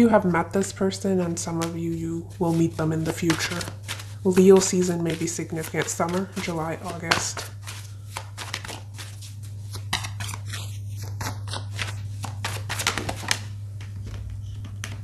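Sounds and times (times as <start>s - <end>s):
cards being shuffled: 1.2s - 15.0s.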